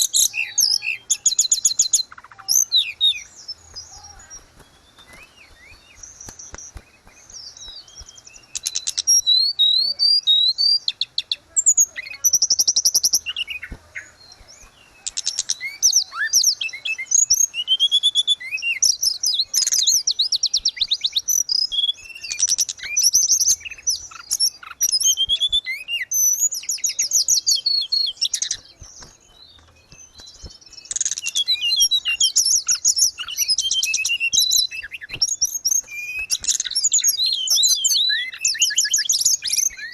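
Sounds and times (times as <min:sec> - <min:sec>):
songbird warbling and trilling: 0:00.0 - 0:39.9.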